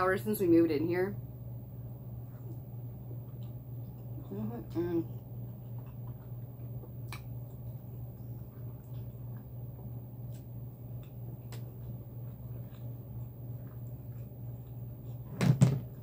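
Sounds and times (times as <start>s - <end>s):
steady low hum: 0.0s - 16.0s
person chewing food: 1.6s - 16.0s.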